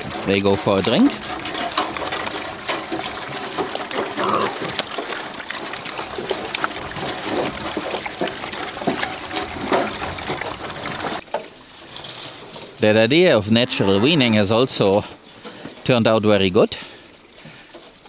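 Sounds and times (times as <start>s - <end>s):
cows drinking: 0.0s - 18.0s
water trickling and splashing: 0.0s - 18.0s.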